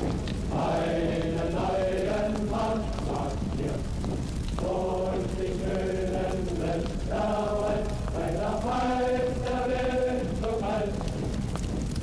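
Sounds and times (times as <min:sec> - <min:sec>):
dense low musical bed: 0:00.0 - 0:12.0
choral voices holding long notes: 0:00.1 - 0:12.0.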